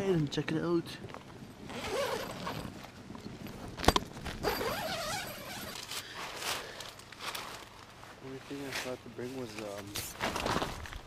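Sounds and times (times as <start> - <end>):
tent nylon rustling: 1.2 - 11.0.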